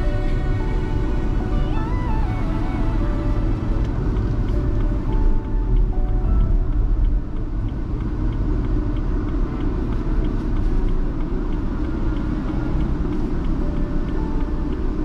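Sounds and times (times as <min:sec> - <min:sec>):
car driving rumble: 0:00.0 - 0:15.0
faint regular ticking: 0:00.1 - 0:15.0.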